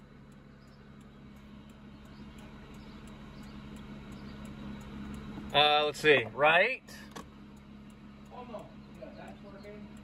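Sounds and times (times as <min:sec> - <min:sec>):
car engine idling: 0:00.0 - 0:10.0
turn signal ticking: 0:00.0 - 0:10.0.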